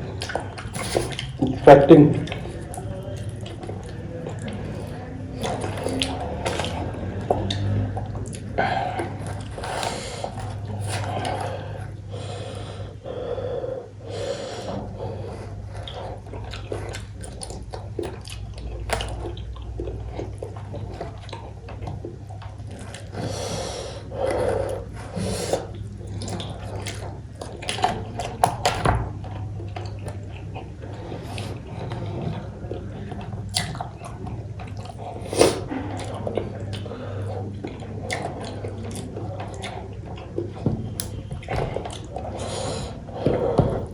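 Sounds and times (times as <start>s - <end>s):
steady low hum: 0.0s - 43.9s
wet chewing and smacking: 0.0s - 43.9s.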